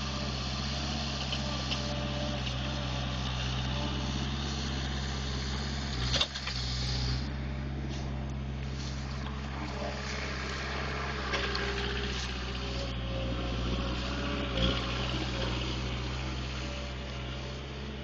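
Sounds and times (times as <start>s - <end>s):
forklift engine running: 0.0s - 18.0s.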